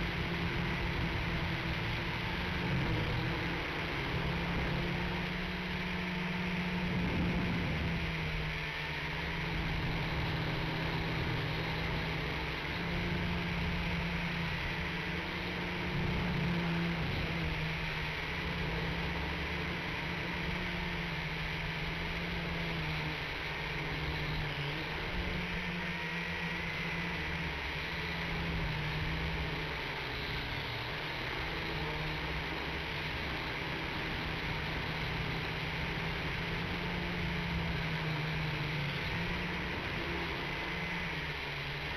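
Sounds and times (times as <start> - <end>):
quadcopter propellers whirring: 0.0 - 41.9.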